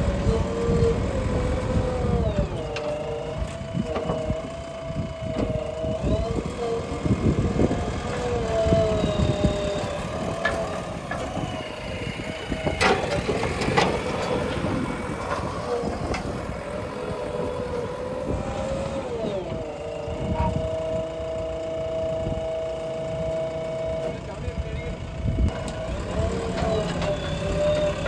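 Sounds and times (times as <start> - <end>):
backhoe diesel engine whining: 0.0 - 28.0.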